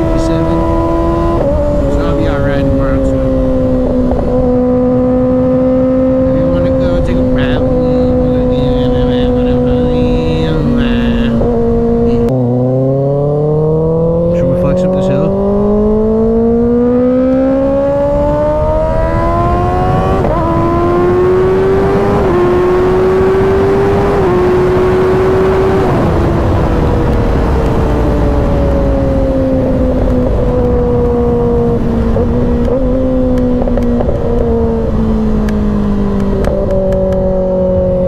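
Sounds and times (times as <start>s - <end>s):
wind rush on microphone: 0.0s - 13.0s, 13.8s - 38.0s
motorcycle engine accelerating: 0.0s - 38.0s.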